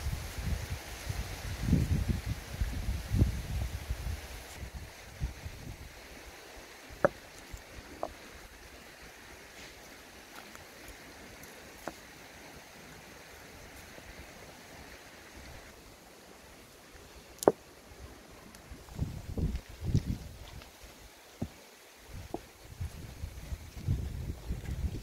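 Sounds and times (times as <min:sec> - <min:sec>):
low outdoor hiss: 0:00.0 - 0:25.0.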